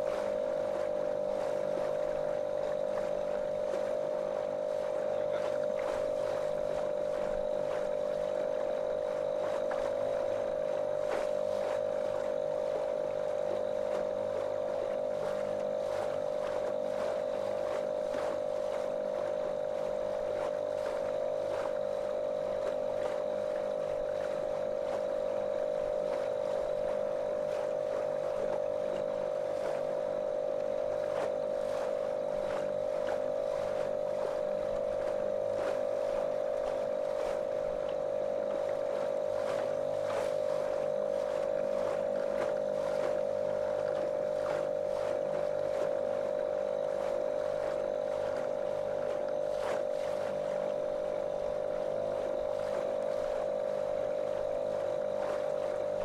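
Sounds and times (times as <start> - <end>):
motorboat engine droning: 0.0 - 56.0
water rushing along hull: 0.0 - 56.0.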